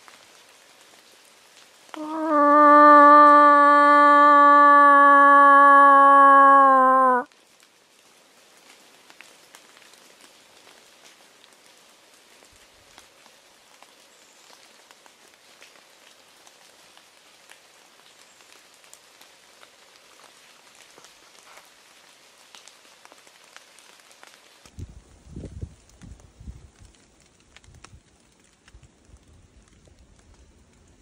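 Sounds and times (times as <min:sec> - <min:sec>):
light rain falling: 0:00.0 - 0:31.0.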